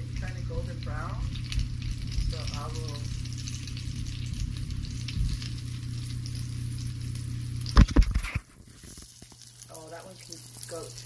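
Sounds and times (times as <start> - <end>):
pancakes sizzling in a pan: 0.0 - 11.0.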